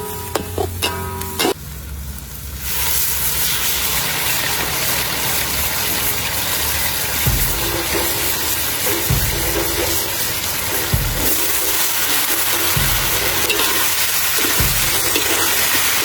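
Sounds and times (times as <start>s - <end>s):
food sizzling in a hot pan: 1.1s - 16.0s.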